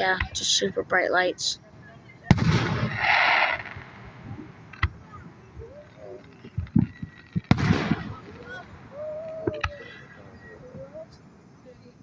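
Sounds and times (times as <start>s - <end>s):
fireworks bursting: 0.0s - 11.5s.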